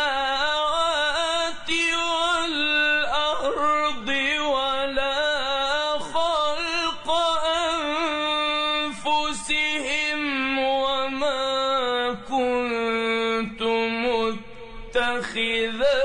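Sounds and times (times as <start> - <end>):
man chanting melodic recitation: 0.0 - 16.0.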